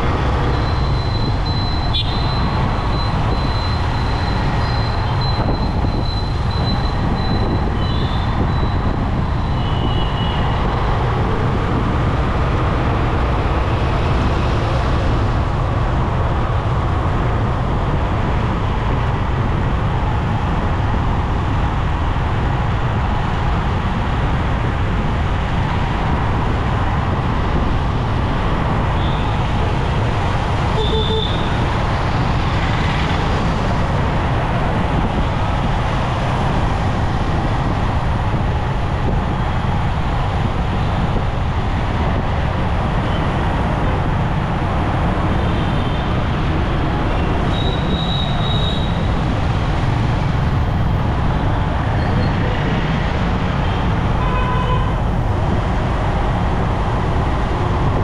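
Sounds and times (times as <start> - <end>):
motorcycle traffic rumble: 0.0 - 58.0.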